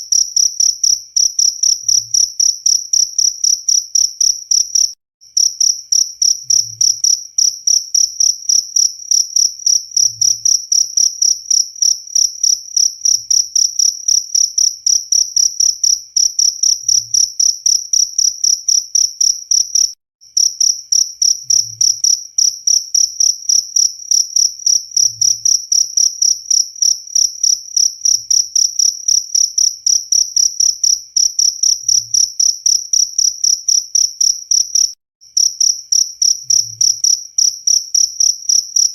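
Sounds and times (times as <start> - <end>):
cricket chirping: 0.1 - 38.9.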